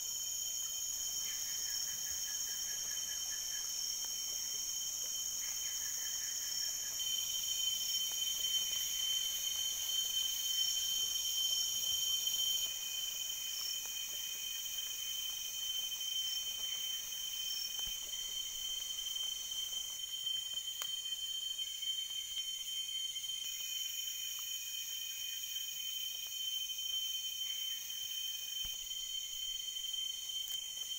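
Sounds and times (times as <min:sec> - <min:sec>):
insect chorus drones: 0:00.0 - 0:30.9.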